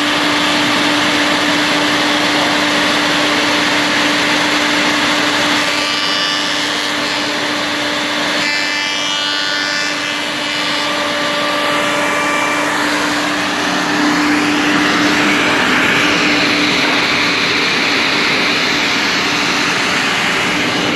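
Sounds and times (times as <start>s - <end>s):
wood shaper machine running: 0.0s - 20.9s.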